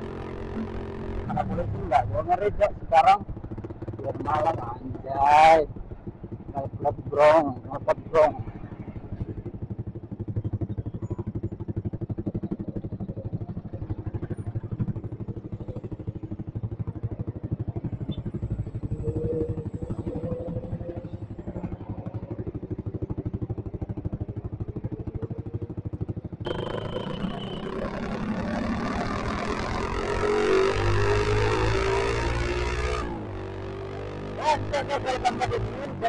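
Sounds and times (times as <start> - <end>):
motorcycle open exhaust running: 0.0 - 36.0.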